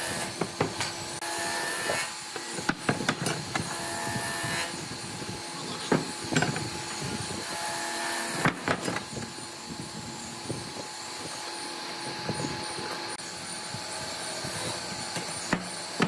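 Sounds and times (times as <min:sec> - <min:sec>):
steady woodworking tool noise: 0:00.0 - 0:16.0.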